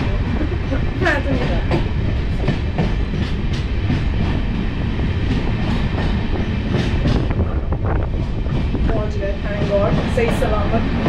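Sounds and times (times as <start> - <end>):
train rumble and hiss: 0.0 - 11.0
wheels clacking over rail joints: 0.0 - 11.0.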